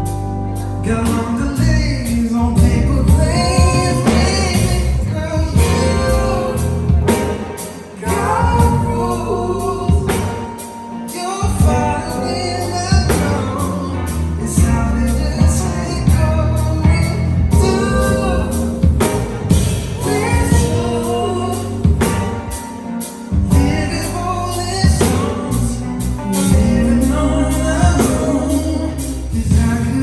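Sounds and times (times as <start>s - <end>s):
band with drum beat: 0.0s - 30.0s
person singing: 0.0s - 30.0s.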